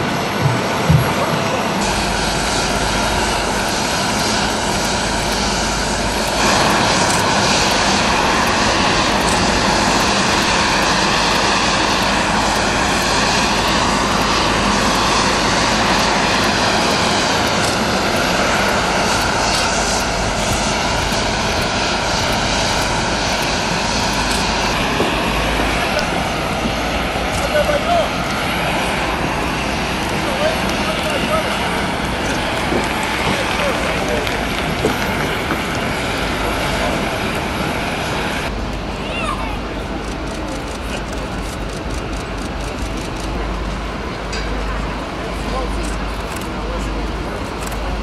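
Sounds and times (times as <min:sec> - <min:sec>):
jet engines idling: 0:00.0 - 0:48.0.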